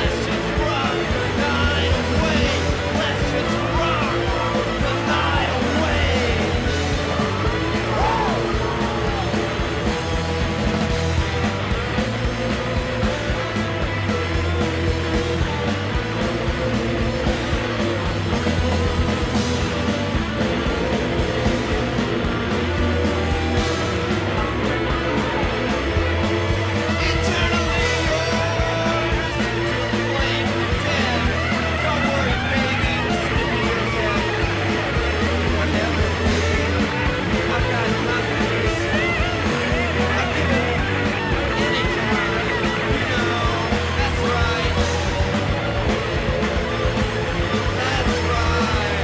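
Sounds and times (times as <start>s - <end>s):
bass guitar: 0.0s - 49.0s
drums: 0.0s - 49.0s
electric guitars: 0.0s - 49.0s
rock song: 0.0s - 49.0s.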